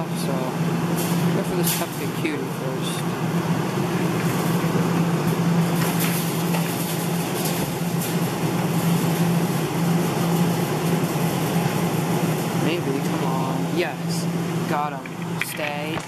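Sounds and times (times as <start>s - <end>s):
claw machine hum and whir: 0.0s - 16.0s.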